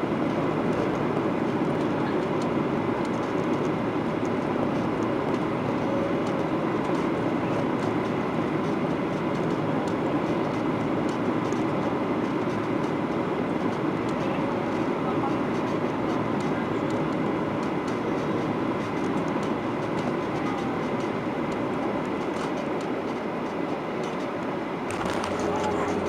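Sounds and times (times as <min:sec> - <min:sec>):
airplane cabin engine noise: 0:00.0 - 0:26.0
faint whine: 0:00.0 - 0:26.0.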